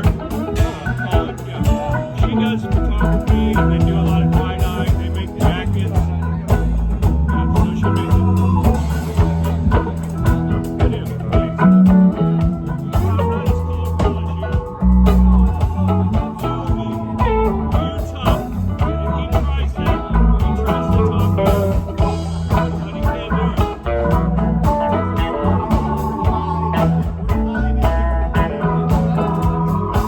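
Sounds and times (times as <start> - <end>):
bass: 0.0 - 30.0
drums: 0.0 - 30.0
electric guitar lines: 0.0 - 30.0
keyboards: 0.0 - 30.0.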